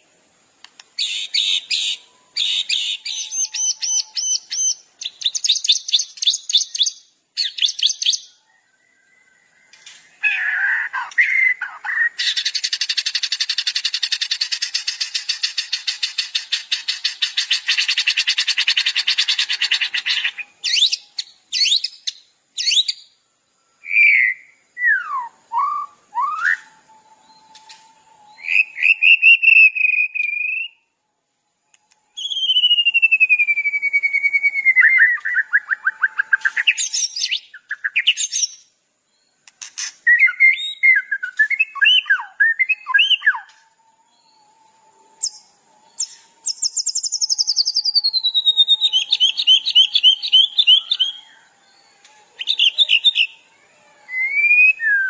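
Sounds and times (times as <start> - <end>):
songbird trilling and whistling: 1.0 - 23.2, 23.8 - 30.9, 31.7 - 55.0.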